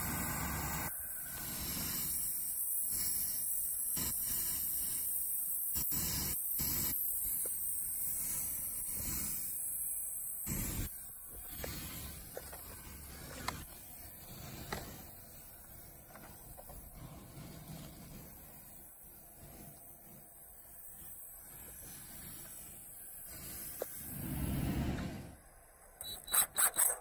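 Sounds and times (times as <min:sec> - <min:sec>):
brazing torch hissing: 0:00.0 - 0:25.4.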